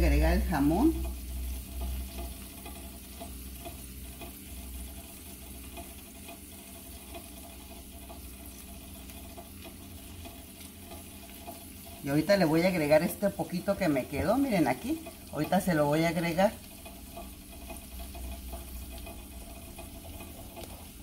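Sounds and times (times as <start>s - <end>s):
tomato slices sizzling in butter: 0.0s - 21.0s.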